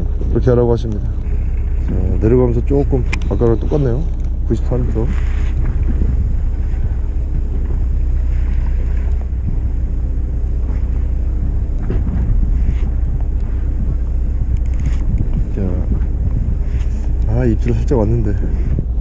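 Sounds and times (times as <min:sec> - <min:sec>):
boat engine running: 0:00.0 - 0:19.0
wind buffeting microphone: 0:00.0 - 0:19.0.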